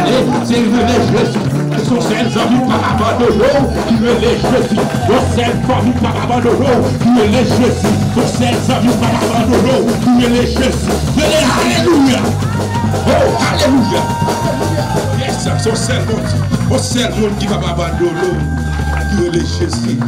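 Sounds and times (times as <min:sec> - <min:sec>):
drum kit with cymbals: 0:00.0 - 0:17.7
bass line: 0:00.0 - 0:20.0
congas: 0:00.0 - 0:20.0
live band playing: 0:00.0 - 0:20.0.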